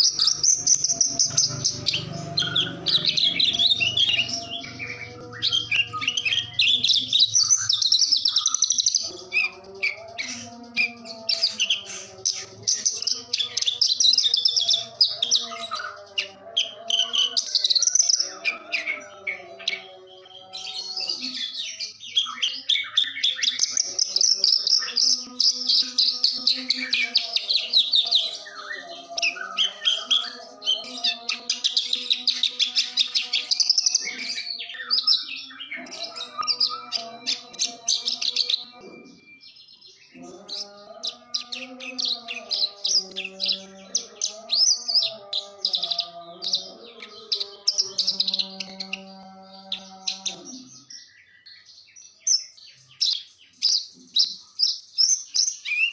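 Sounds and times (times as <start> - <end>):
bird chirps and trills: 0.0 - 55.9.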